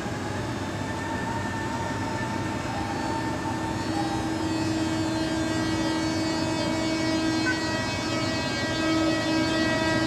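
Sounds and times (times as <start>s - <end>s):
electric locomotive whining: 0.0s - 10.0s.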